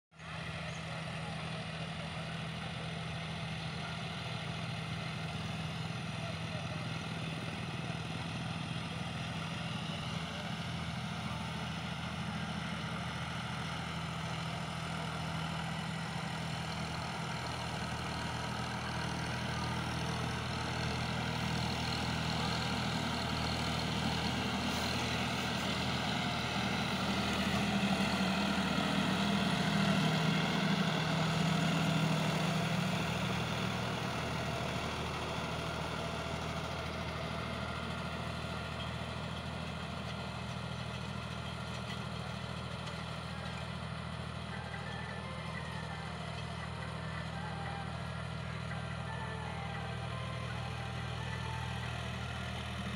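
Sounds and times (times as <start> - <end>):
tractor diesel engine running: 0.2 - 52.9.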